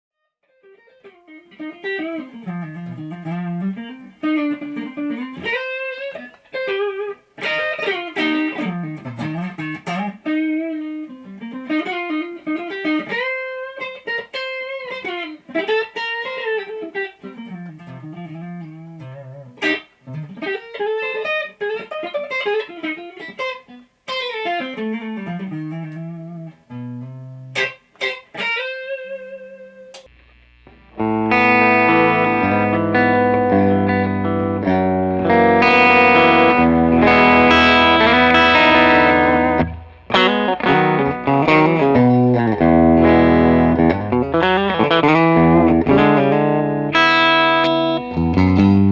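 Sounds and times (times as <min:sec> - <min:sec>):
electric guitar lead line: 0:00.4 - 0:48.9.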